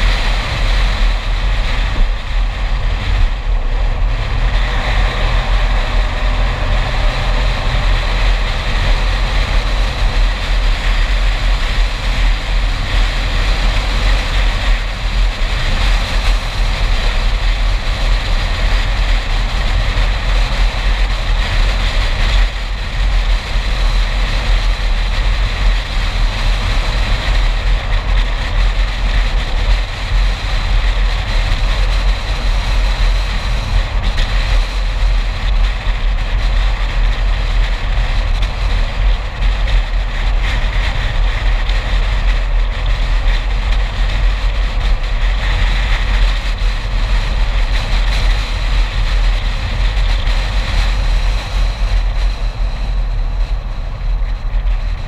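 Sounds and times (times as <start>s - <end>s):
deep rumble: 0.0s - 55.0s
tyre and wind noise: 0.0s - 55.0s.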